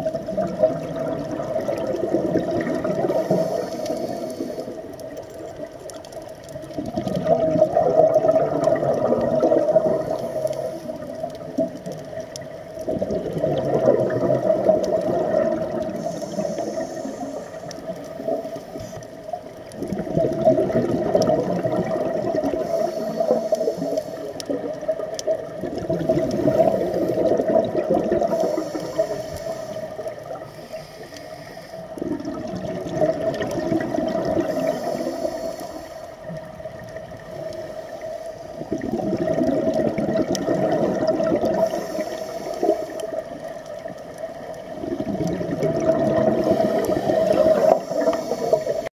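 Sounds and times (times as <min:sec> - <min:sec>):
regulator bubbling underwater: 0:00.0 - 0:48.9.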